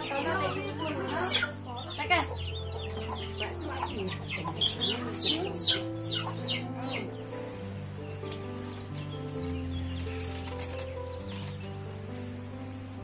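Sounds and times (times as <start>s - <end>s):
chickens clucking and cheeping: 0.0s - 13.0s
soft background music: 0.0s - 13.0s.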